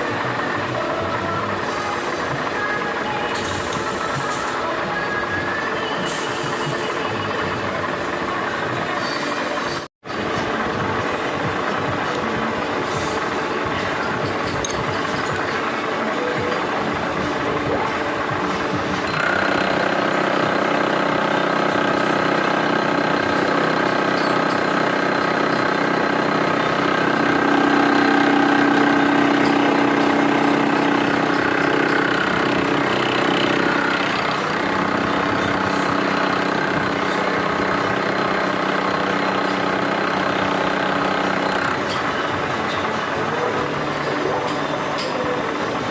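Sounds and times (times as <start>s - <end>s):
milling machine running: 0.0s - 45.9s.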